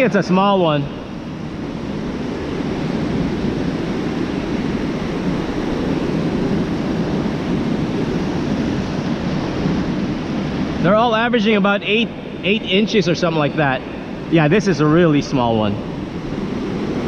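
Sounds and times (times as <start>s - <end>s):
ocean surf washing on beach: 0.0s - 17.0s.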